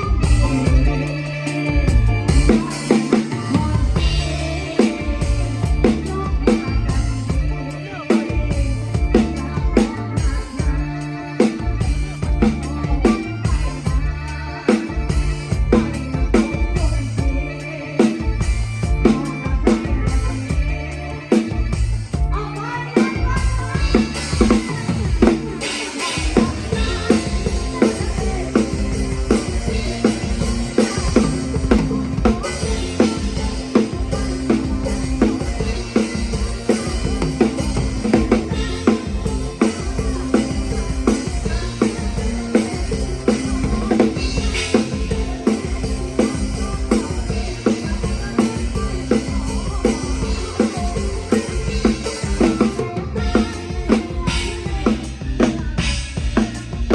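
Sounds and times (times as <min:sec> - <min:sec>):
band instruments: 0:00.0 - 0:56.9
drum kit beat: 0:00.0 - 0:56.9.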